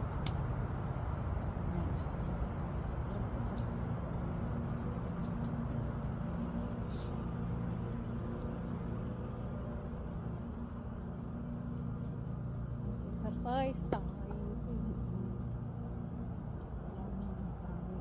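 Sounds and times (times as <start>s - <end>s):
low outdoor hum and rumble: 0.0s - 18.0s.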